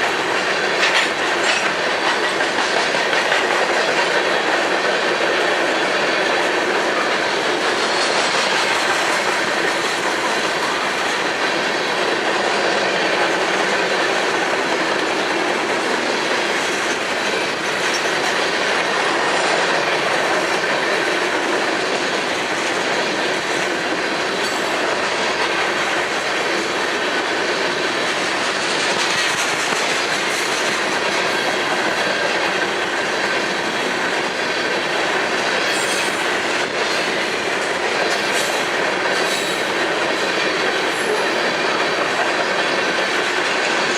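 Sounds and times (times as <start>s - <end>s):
train cars rolling on rails: 0.0s - 43.9s
wheels clacking over track: 0.0s - 43.9s.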